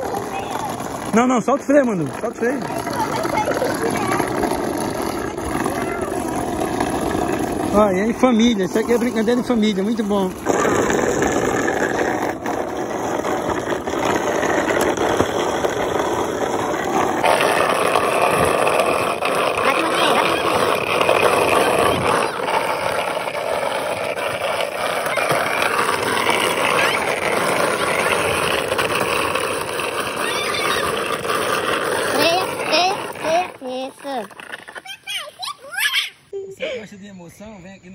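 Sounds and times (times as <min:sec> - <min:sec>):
cart wheels rolling on asphalt: 0:00.0 - 0:36.3.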